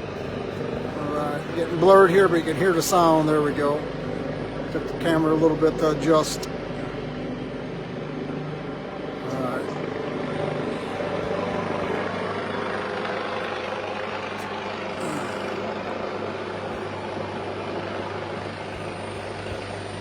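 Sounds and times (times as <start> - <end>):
helicopter hovering: 0.0 - 20.0.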